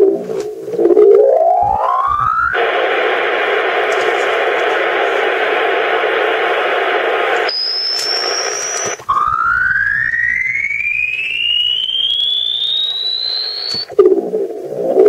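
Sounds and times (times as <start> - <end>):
shortwave radio buzzing hum: 0.0 - 15.0
radio whistle gliding upward: 0.8 - 14.0.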